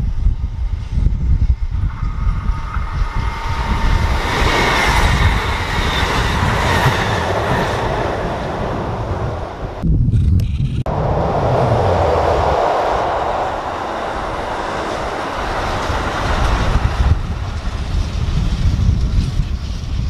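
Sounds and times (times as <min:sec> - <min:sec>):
electric train running past: 0:00.0 - 0:09.8, 0:10.9 - 0:20.0.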